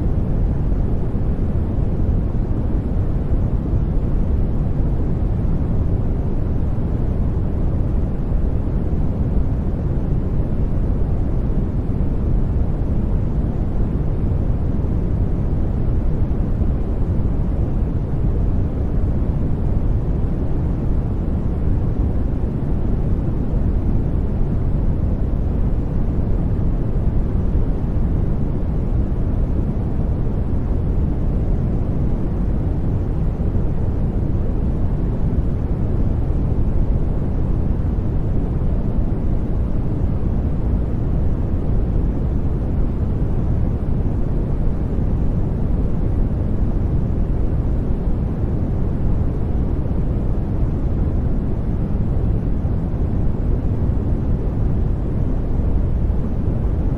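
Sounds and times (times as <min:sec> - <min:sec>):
deep rushing brown noise hiss: 0:00.0 - 0:56.9.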